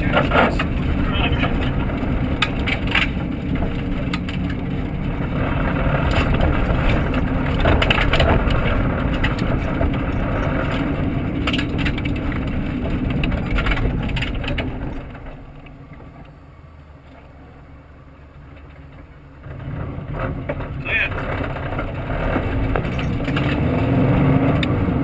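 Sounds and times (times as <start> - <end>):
car knocks and rattles: 0.0 - 16.4, 18.4 - 25.0
car engine and road rumble: 0.0 - 25.0.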